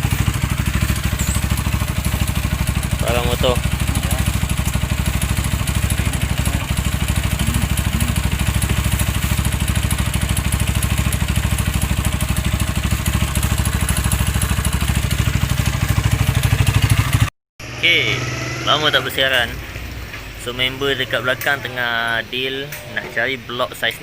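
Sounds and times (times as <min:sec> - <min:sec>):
motorcycle engine idling: 0:00.0 - 0:21.6.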